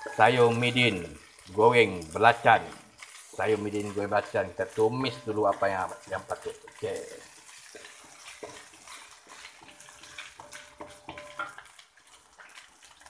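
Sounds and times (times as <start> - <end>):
paste sizzling in hot oil: 0.0 - 13.0
wooden spatula scraping a wok: 0.0 - 13.0.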